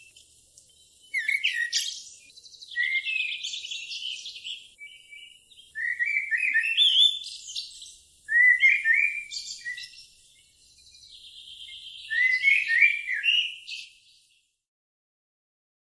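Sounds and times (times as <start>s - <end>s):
songbird chirping: 0.0s - 14.6s.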